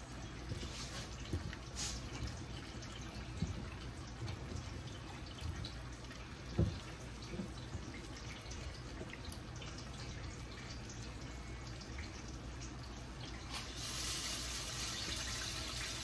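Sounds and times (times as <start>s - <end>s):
liquid splashes and drips: 0.0s - 16.0s
low steady hum: 0.0s - 16.0s.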